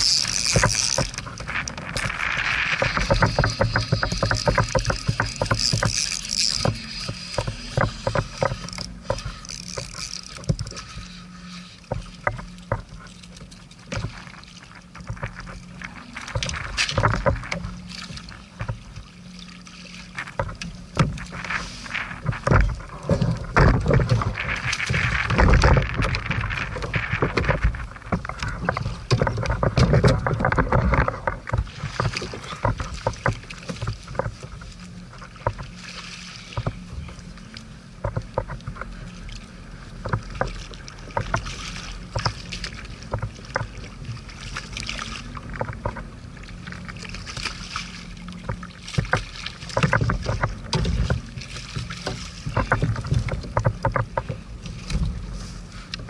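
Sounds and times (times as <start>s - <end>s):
water slapping plastic hull: 0.0s - 11.1s, 11.8s - 56.0s
gear knocks and clicks: 0.0s - 56.0s
wind rumbling on microphone: 0.0s - 56.0s.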